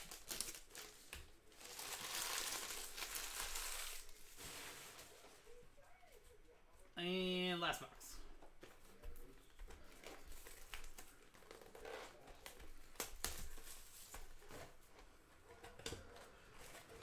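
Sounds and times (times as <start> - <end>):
wrappers and cards rustling: 0.0 - 6.4, 8.4 - 17.0.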